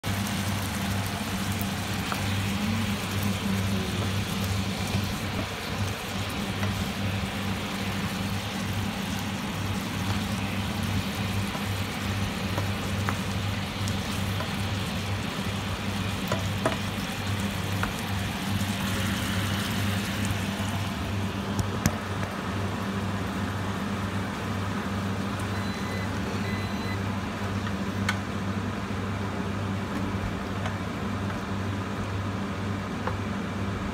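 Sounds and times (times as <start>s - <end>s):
food sizzling in frying pan: 0.0s - 28.0s
low electrical hum: 0.0s - 33.9s.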